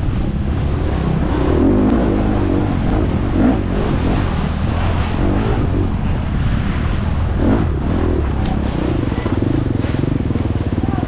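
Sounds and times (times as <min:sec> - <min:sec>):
dirt bike engine revving: 0:00.0 - 0:11.0
rough rushing noise: 0:00.0 - 0:11.0.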